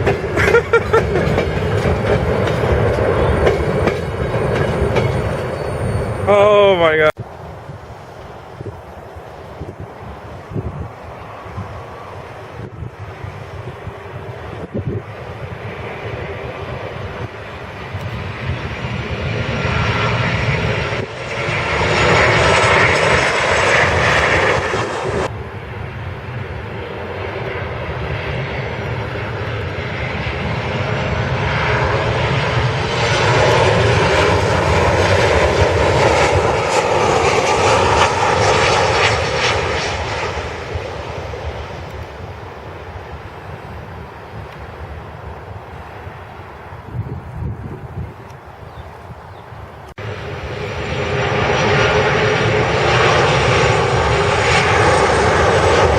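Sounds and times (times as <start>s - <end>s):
jet airliner engines roaring: 0.0s - 55.9s.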